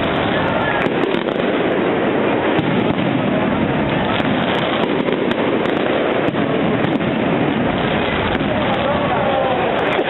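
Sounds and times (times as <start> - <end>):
fireworks bursting: 0.0 - 10.0
sharp crackling pops: 0.0 - 10.0.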